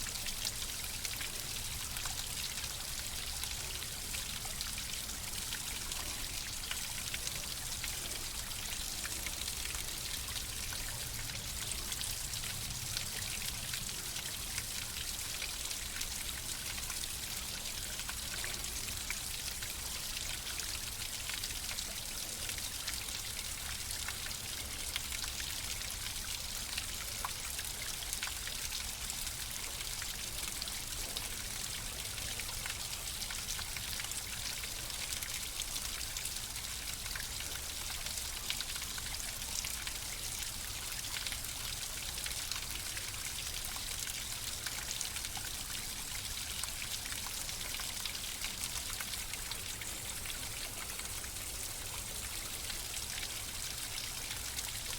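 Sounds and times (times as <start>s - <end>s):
stream of running water: 0.0s - 54.9s.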